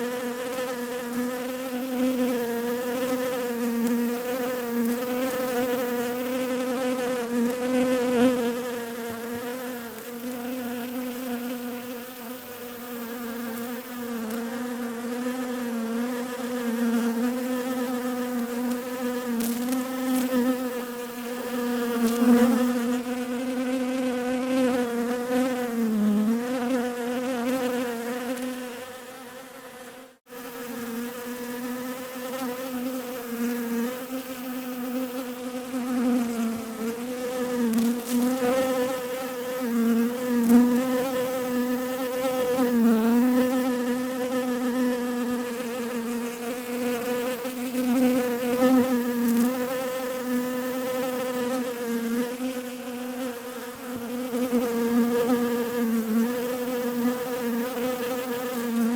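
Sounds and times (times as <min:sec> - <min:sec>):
bees buzzing: 0:00.0 - 0:58.9.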